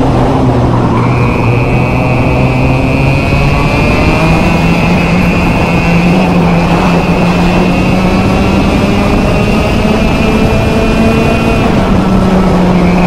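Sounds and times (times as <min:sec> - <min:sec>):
high-pitched whine: 0:00.0 - 0:13.0
two-stroke kart engine accelerating: 0:00.0 - 0:13.0.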